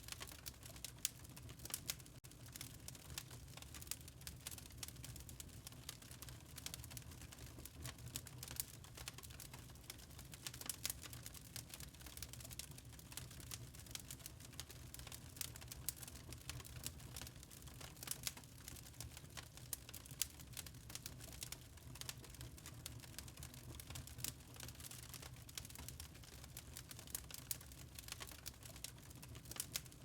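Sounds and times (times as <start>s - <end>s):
burning wood crackling and popping: 0.0s - 30.0s.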